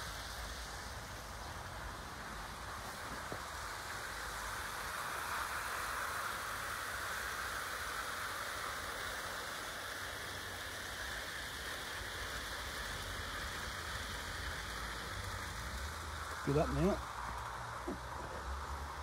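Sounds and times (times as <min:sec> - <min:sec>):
model train rolling hiss: 0:00.0 - 0:19.0.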